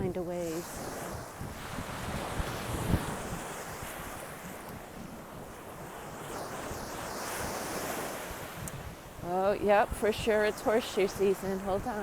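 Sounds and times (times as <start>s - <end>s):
ocean surf on beach: 0.0s - 12.0s
wind on microphone: 0.0s - 12.0s.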